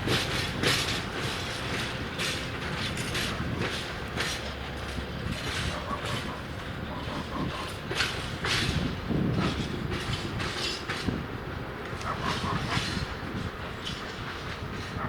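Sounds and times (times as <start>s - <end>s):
train rolling rumble: 0.0s - 15.0s
train wheels clacking: 0.0s - 15.0s.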